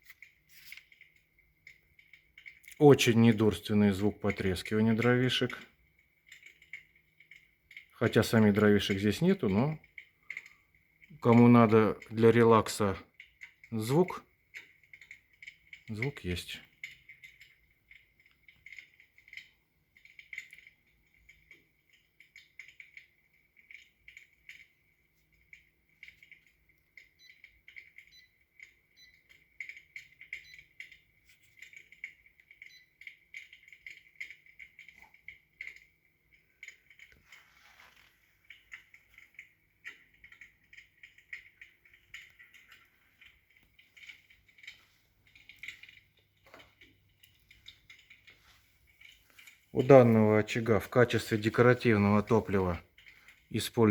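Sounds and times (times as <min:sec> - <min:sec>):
recorded fire crackling: 0:00.0 - 0:53.9.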